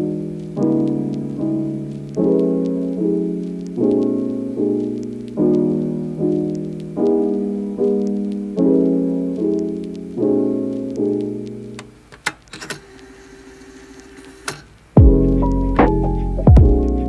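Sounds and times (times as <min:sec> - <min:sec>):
piano chords: 0:00.0 - 0:12.0, 0:15.0 - 0:17.0.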